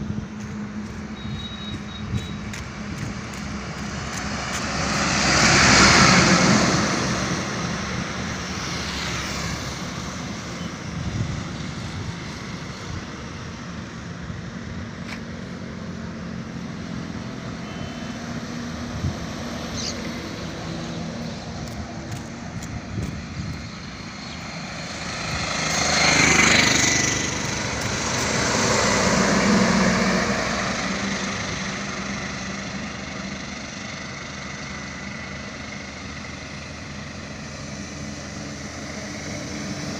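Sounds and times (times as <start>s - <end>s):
trucks passing by: 0.0s - 39.9s.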